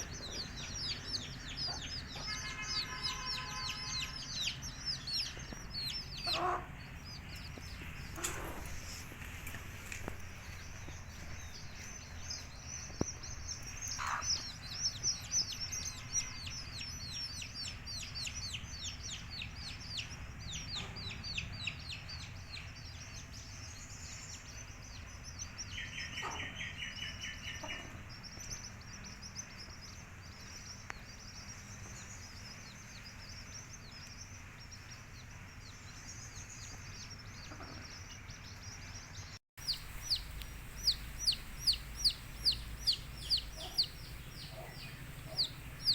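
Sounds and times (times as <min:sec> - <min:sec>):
baby chicks peeping: 0:00.0 - 0:45.9.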